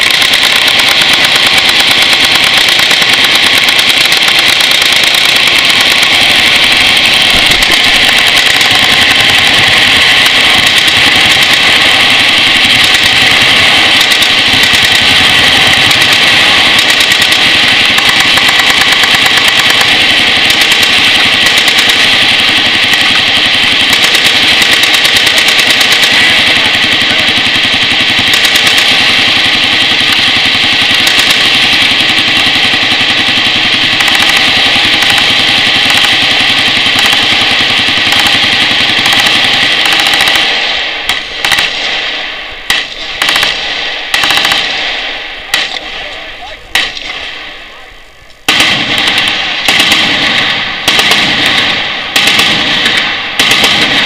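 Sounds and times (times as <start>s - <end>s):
machine guns firing: 0.0s - 54.0s.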